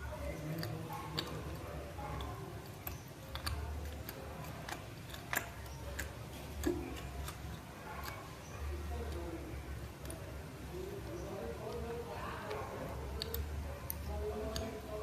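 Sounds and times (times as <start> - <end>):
clay chunks crunched and chewed: 0.1 - 15.0.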